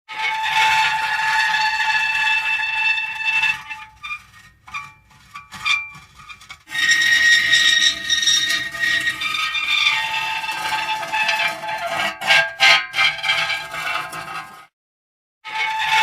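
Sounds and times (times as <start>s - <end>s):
metal creaking and squealing: 0.1s - 14.7s, 15.5s - 16.0s.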